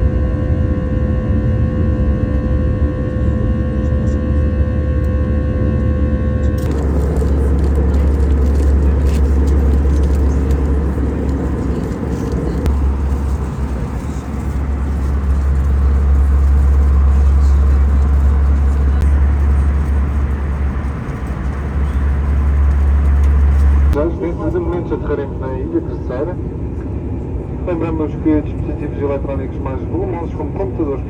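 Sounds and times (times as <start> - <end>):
airliner cabin drone and rushing air: 0.1 - 31.0.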